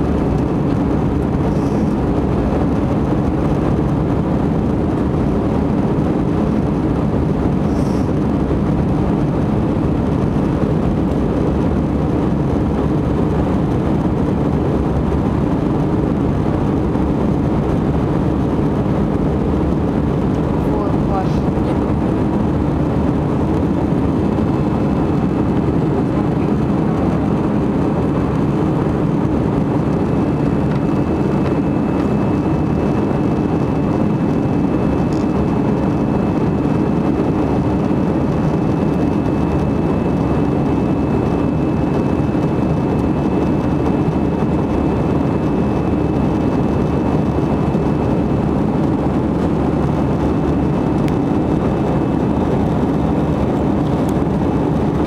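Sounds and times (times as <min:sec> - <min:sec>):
jet engines and airflow in cabin: 0:00.0 - 0:55.0.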